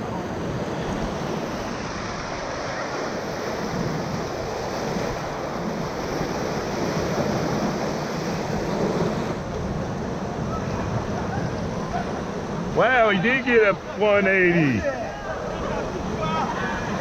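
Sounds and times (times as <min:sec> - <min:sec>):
whitewater rapids rushing: 0:00.1 - 0:17.0.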